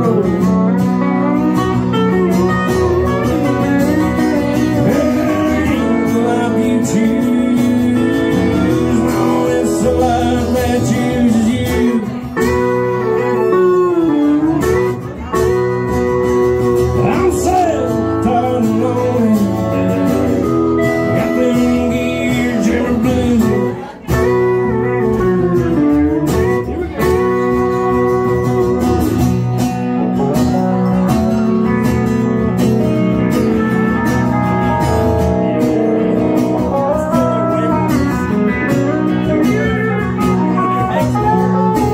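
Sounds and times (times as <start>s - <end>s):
acoustic guitar: 0.0s - 41.9s
pedal steel guitar sliding notes: 0.0s - 41.9s.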